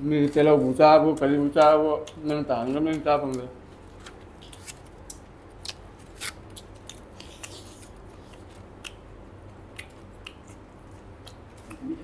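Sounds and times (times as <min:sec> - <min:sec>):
faint low hum: 0:00.0 - 0:12.0
chewing and biting crunches: 0:00.4 - 0:12.0.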